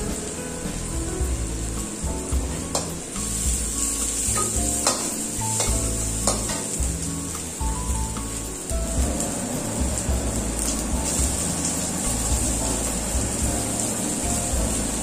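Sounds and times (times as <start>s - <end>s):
onions sizzling in a wok: 0.0s - 15.0s.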